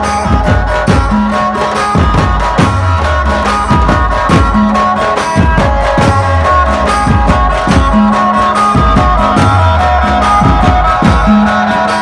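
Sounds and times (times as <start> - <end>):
bass drums and dhols beating: 0.0 - 12.0
high held melody line: 0.0 - 12.0.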